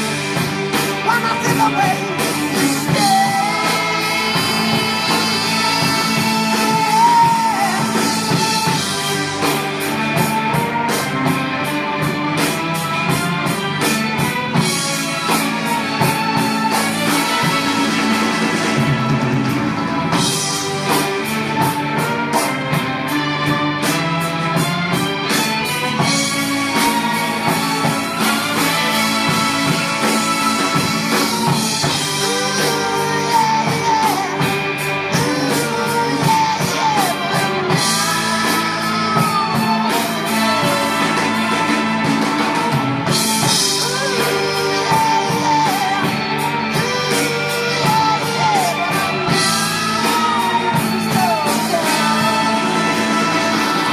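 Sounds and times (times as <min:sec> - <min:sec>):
rock song through speaker: 0:00.0 - 0:53.9.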